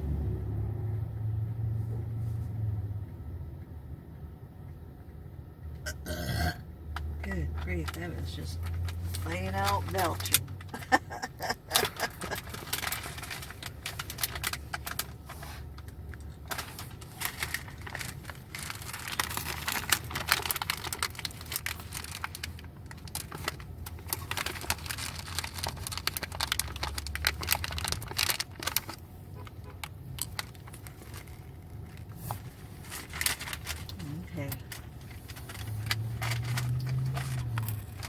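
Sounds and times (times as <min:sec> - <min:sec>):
car cabin low rumble: 0:00.0 - 0:05.9, 0:06.6 - 0:38.0
dense crinkling crackle: 0:07.3 - 0:38.0.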